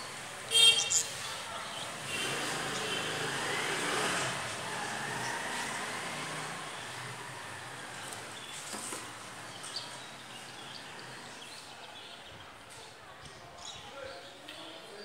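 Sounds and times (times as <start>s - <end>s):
steady outdoor rush: 0.0s - 12.5s.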